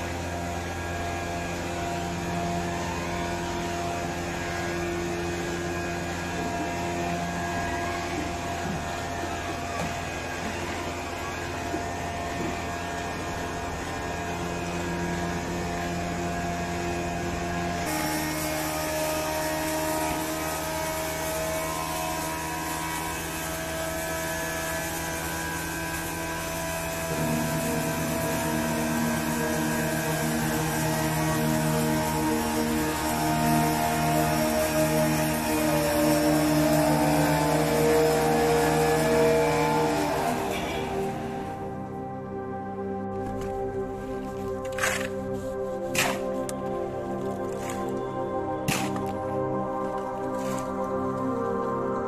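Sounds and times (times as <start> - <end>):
flour mill machines grinding: 0.0 - 52.0.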